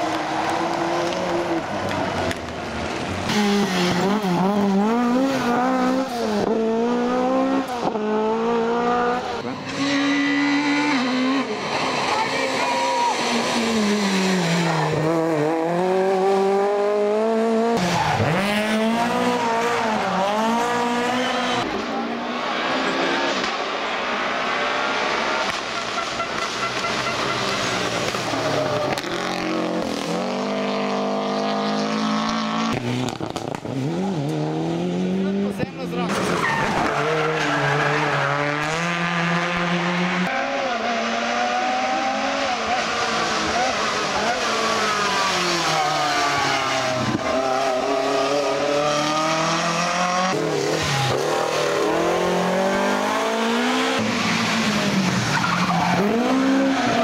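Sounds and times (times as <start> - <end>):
rally car engine at high revs: 0.0 - 57.0.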